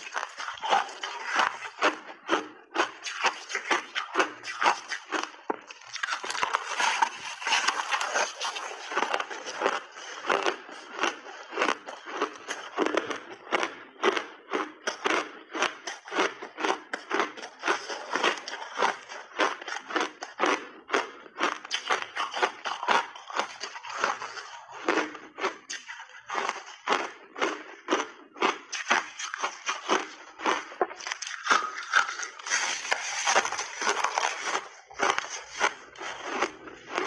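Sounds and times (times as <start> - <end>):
ice crunching while chewed: 0.0 - 37.0.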